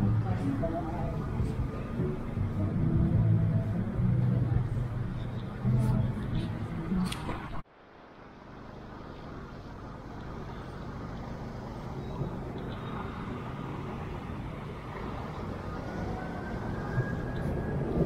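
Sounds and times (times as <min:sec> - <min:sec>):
cars passing on city street: 0:00.0 - 0:18.0
faint rising vehicle whine: 0:00.0 - 0:18.0.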